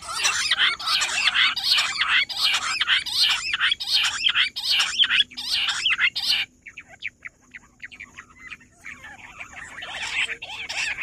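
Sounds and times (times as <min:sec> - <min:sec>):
quail calling: 0:00.0 - 0:11.0.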